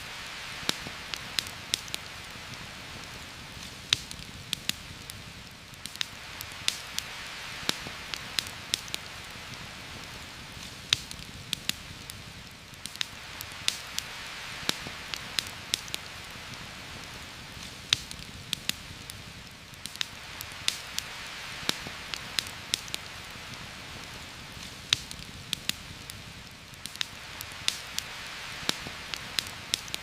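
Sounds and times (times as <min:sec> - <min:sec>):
heavy rain through forest canopy: 0:00.0 - 0:30.0
sharp ticks of raindrops: 0:00.0 - 0:30.0.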